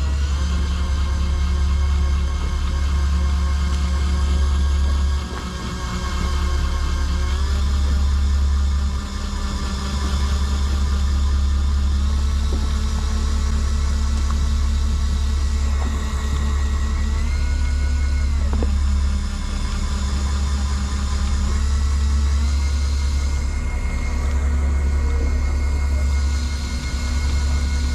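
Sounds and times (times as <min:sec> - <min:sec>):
boat engine humming: 0:00.0 - 0:27.9
high whining tones: 0:00.0 - 0:27.9.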